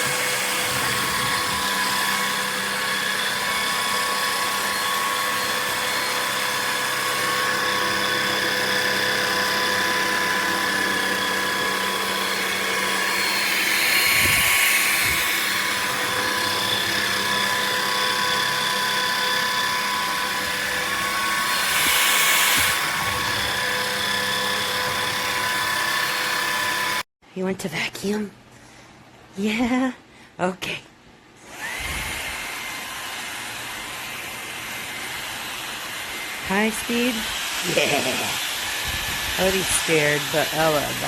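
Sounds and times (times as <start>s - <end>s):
vacuum cleaner motor whine: 0.0s - 27.0s, 31.5s - 41.0s.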